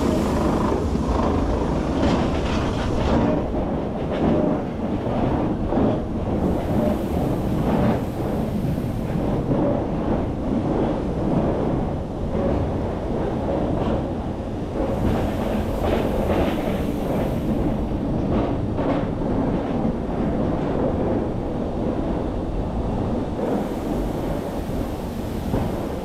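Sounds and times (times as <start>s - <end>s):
sharp train clacks: 0.0s - 22.2s, 22.8s - 26.0s
train wheels rumbling on track: 0.0s - 26.0s.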